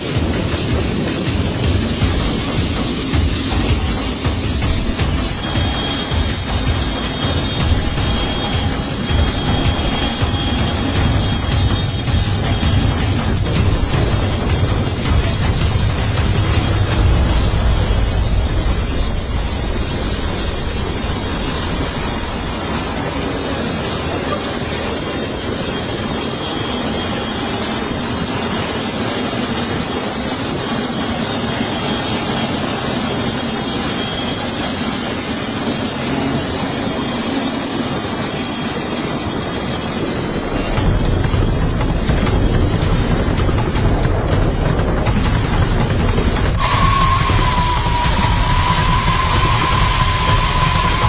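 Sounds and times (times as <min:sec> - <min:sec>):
airplane engines whining: 0:00.0 - 0:51.0.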